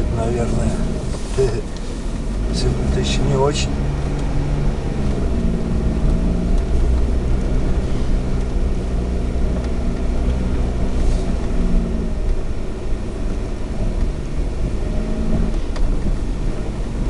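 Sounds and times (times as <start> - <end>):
tyre road rumble: 0.0 - 17.0.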